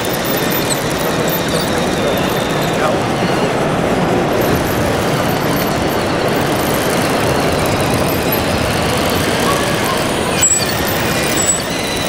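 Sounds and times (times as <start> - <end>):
steady engine-like running noise: 0.0 - 12.0.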